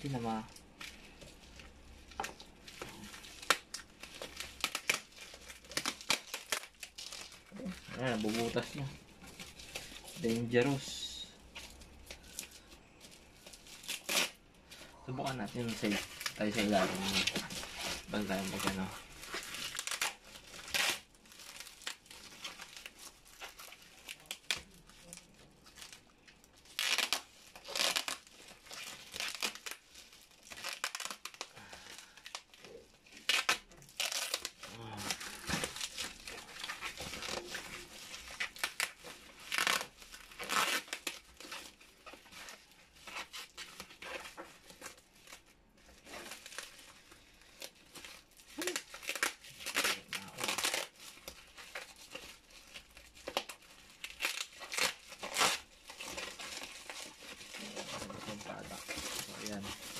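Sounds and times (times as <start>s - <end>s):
bubble wrap crinkling: 0.0s - 59.9s
tape tearing: 0.0s - 59.9s.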